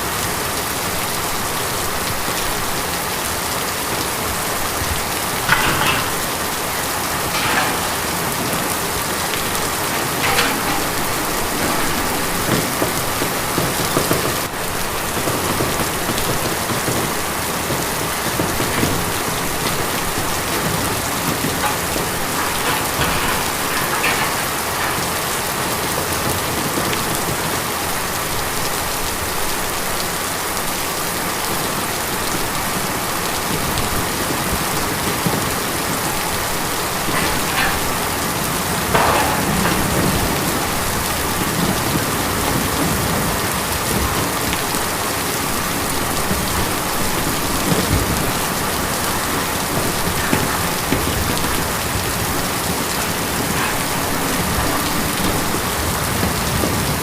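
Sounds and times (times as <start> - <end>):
rain falling on tin: 0.0 - 57.0.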